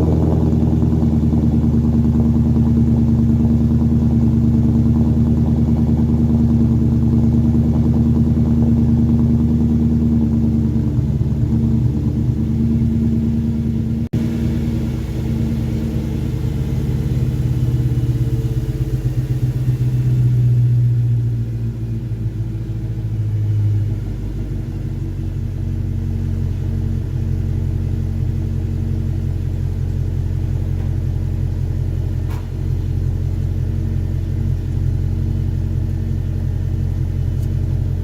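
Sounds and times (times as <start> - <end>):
car engine idling rumble: 0.0 - 38.0.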